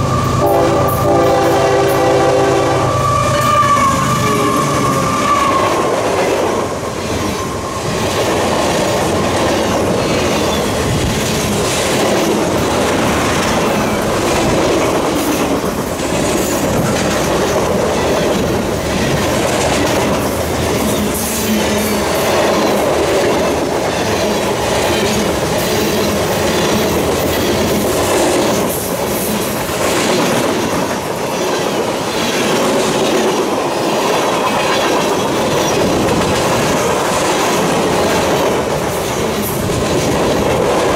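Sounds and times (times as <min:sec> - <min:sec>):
steel wheels rumbling on rail: 0:00.0 - 0:40.9
wheels clicking over rail joints: 0:05.6 - 0:40.9.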